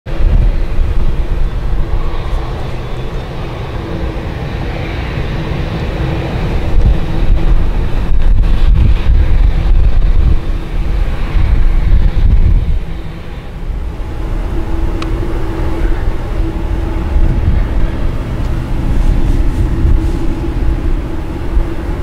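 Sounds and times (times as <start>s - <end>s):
wind buffeting microphone: 0.0s - 22.0s
jet engines rumbling: 0.1s - 22.0s.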